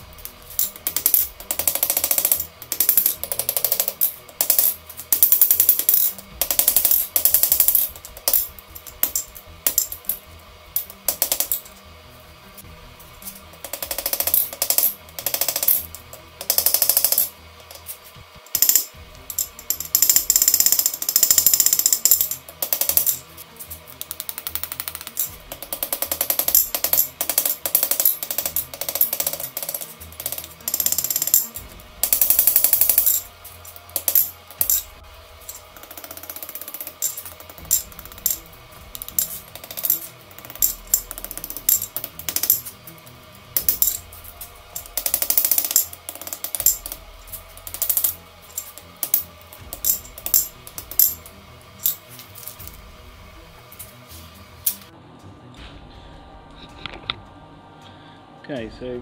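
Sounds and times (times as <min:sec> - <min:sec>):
hammer striking steel on an anvil: 0:00.0 - 0:11.9, 0:12.5 - 0:52.8.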